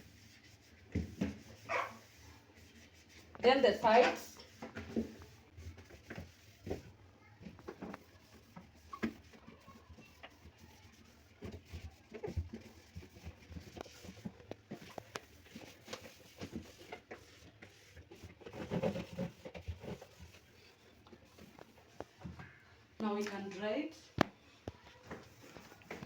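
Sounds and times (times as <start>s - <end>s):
wet cloth scrubbing fridge walls: 0.0s - 24.1s, 24.8s - 26.0s.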